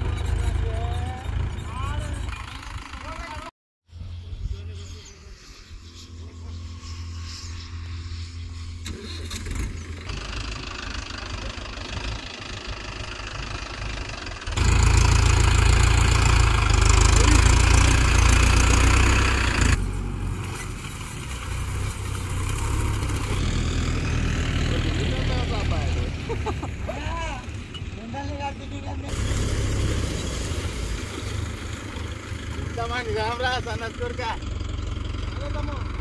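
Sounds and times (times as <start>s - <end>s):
tractor diesel engine rumbling: 0.0s - 3.5s, 8.8s - 36.0s.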